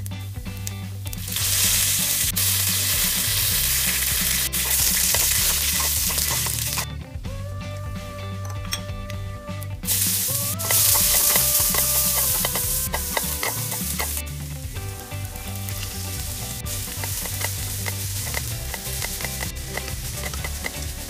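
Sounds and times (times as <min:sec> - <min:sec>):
hot oil sizzling: 0:00.0 - 0:07.0, 0:09.8 - 0:21.0
soft background music: 0:00.0 - 0:21.0.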